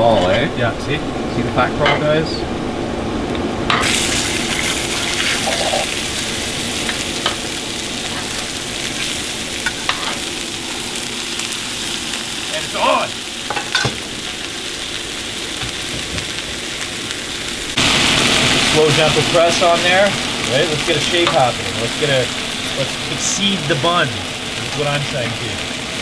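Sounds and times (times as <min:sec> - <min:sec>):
patties sizzling in oil: 0:03.7 - 0:26.0.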